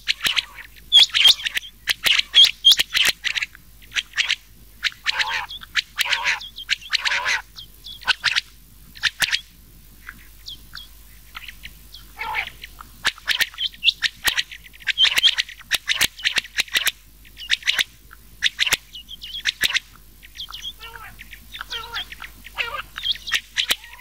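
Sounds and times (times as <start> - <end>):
quail calls: 0.0 - 24.0.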